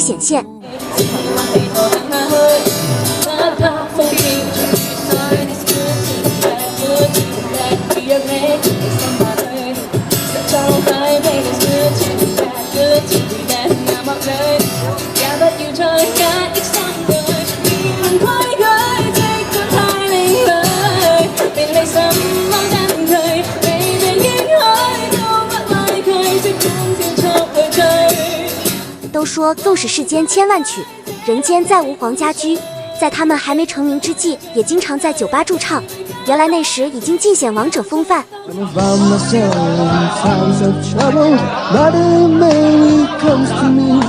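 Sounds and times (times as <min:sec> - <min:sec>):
girl singing through microphone: 0:00.0 - 0:38.8
pop backing track: 0:00.0 - 0:44.0.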